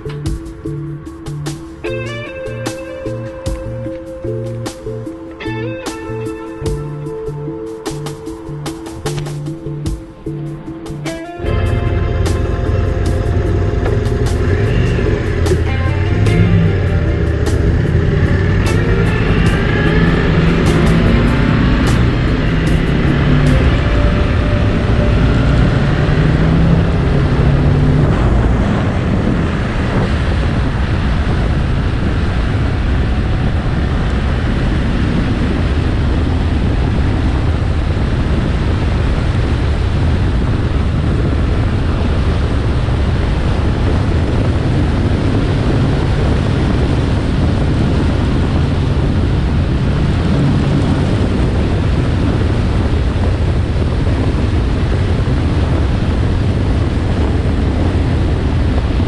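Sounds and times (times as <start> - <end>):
vehicle engine rumble: 0.0 - 59.0
wind rushing over microphone: 0.0 - 59.0.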